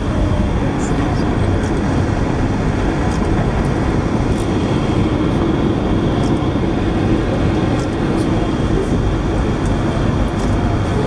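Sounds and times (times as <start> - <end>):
train running noise: 0.0 - 11.0.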